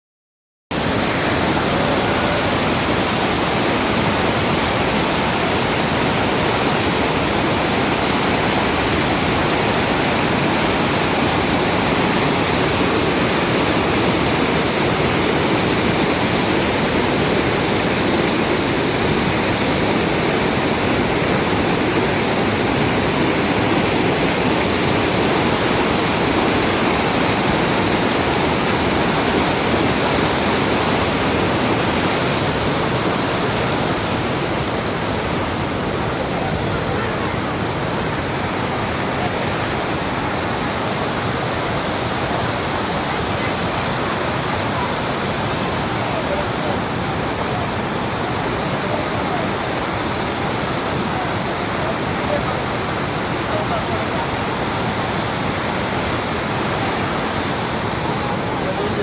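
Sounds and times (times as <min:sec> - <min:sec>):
waterfall rushing: 0:00.7 - 0:59.0.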